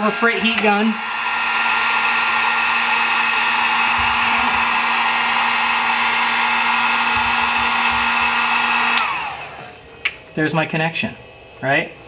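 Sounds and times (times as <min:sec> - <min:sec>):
heat gun blowing air: 0:00.0 - 0:09.8.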